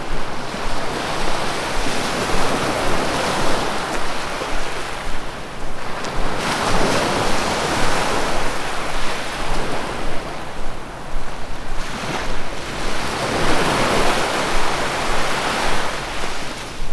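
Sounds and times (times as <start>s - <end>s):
sea waves breaking on shore: 0.0s - 16.9s
wind: 0.0s - 16.9s.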